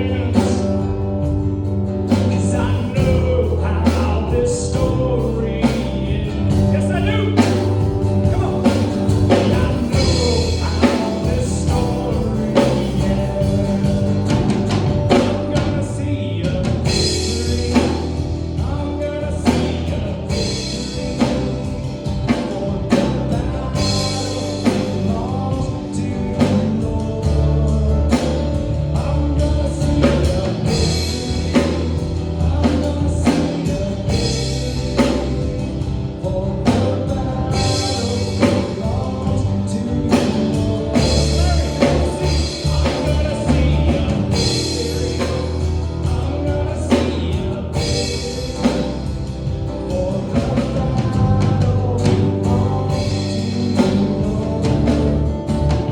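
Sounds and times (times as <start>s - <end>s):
people singing: 0.0s - 1.1s, 2.1s - 55.9s
live band with drums: 0.0s - 55.9s.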